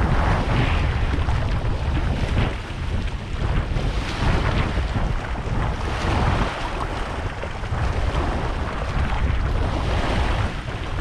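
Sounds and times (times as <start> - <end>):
waves washing over rock: 0.0 - 11.0
wind buffeting microphone: 0.0 - 11.0.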